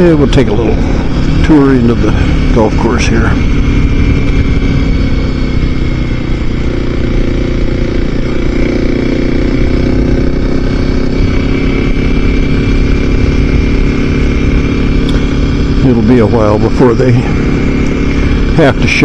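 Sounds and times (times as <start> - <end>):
motorcycle engine cruising: 0.0 - 19.0
wind rumble on microphone: 0.0 - 19.0.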